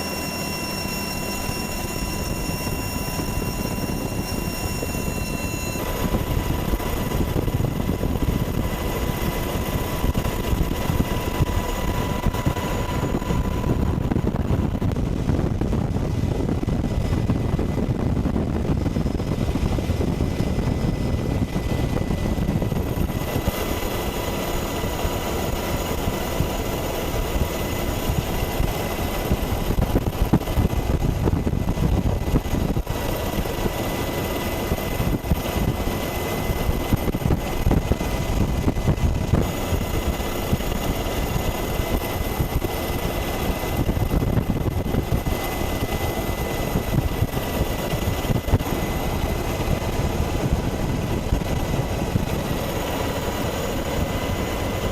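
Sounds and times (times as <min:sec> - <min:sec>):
helicopter rotor chop: 0:00.0 - 0:54.9
high turbine whine: 0:00.0 - 0:54.9.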